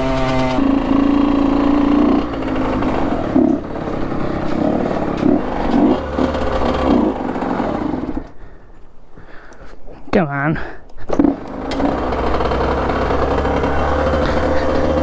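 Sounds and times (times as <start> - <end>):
dirt bike engine: 0.0 - 9.6, 10.9 - 15.0.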